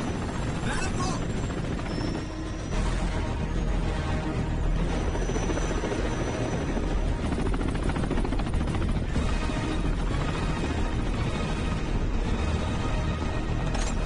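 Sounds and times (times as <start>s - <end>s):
helicopter rotor and engine: 0.0s - 14.0s
tense orchestral film score: 0.0s - 14.0s.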